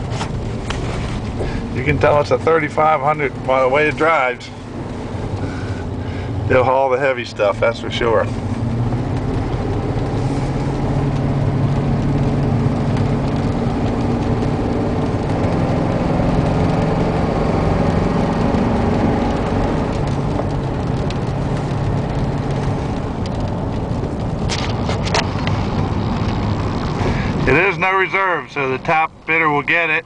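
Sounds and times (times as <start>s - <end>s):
road and tyre noise: 0.0s - 30.0s
truck engine drone: 0.0s - 30.0s.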